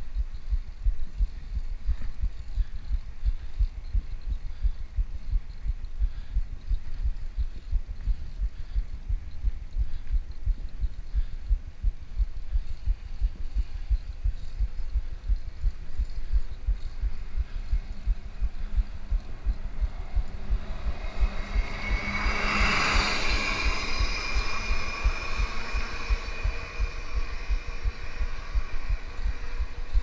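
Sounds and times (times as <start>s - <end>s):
steady whine: 0.0s - 30.0s
wind buffeting microphone: 0.0s - 30.0s.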